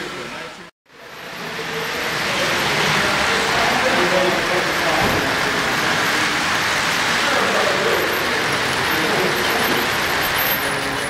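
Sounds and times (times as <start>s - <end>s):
model train wheels and motors rumbling: 1.0s - 11.0s.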